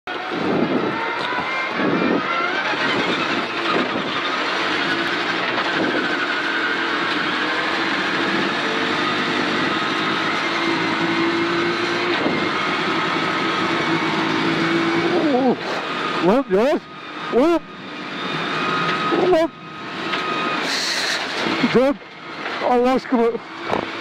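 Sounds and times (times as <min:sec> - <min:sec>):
rally car engine accelerating: 0:00.1 - 0:24.0.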